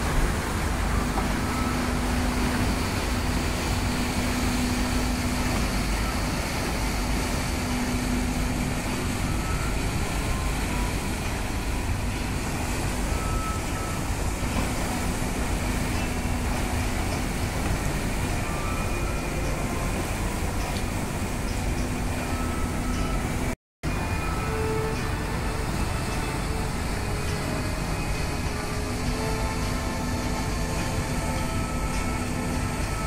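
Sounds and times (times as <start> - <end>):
churning water: 0.0 - 33.0
low hum: 0.0 - 33.0
ship engine rumble: 0.0 - 33.0.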